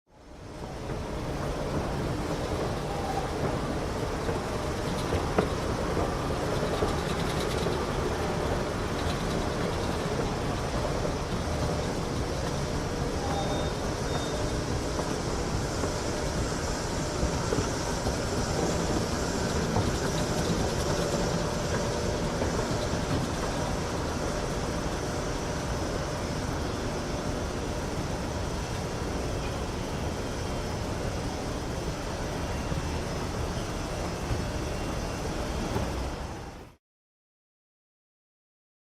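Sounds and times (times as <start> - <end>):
faint steady whine: 0.1 - 36.8
escalator rumbling: 0.6 - 36.4.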